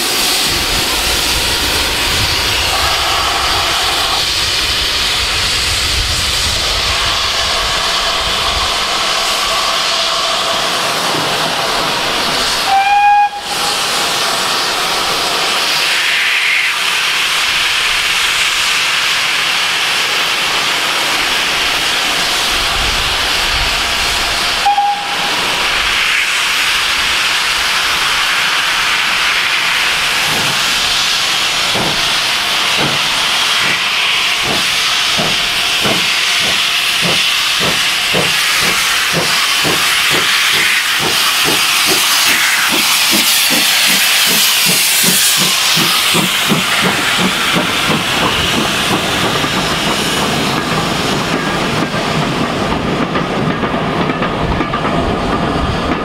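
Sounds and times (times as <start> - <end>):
steam hissing from locomotive: 0.0 - 56.0
steam locomotive exhaust beats: 0.0 - 56.0.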